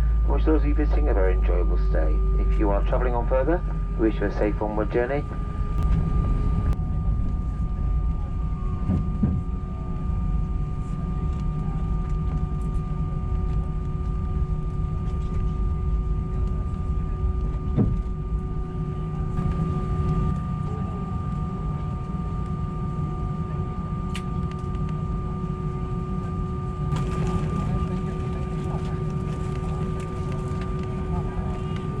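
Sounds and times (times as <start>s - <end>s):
aircraft cabin engine rumble: 0.0s - 32.0s
steady whining tones: 0.0s - 32.0s.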